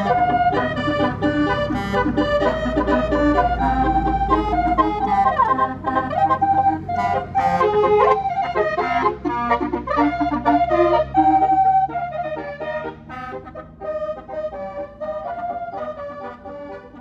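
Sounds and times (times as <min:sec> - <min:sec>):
bus horn playing a tune: 0:00.0 - 0:17.0.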